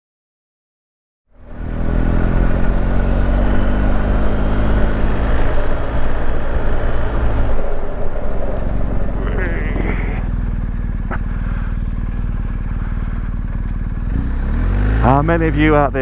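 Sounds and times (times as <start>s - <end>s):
motorcycle engine running: 1.4s - 16.0s.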